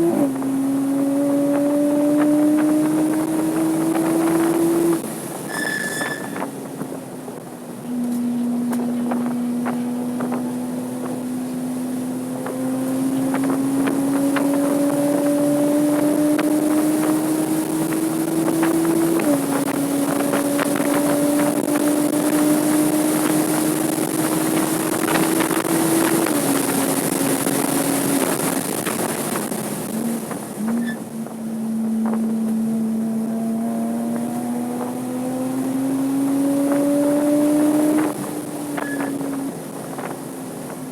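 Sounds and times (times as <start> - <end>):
car engine pulling hard: 0.0 - 40.9
wind noise: 0.0 - 40.9.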